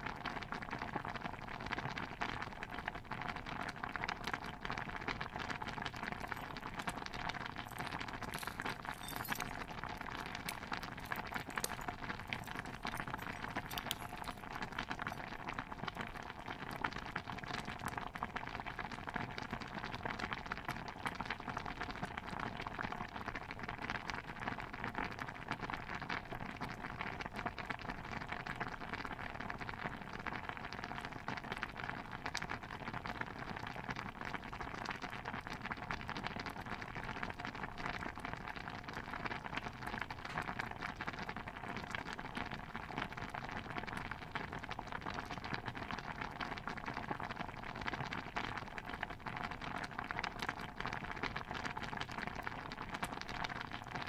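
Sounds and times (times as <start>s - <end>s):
stew bubbling at a boil: 0.0s - 54.0s.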